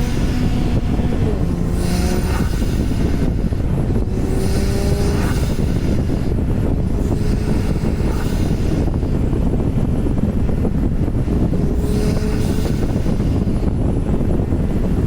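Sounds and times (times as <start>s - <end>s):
car engine droning: 0.0s - 15.0s
road noise: 0.0s - 15.0s.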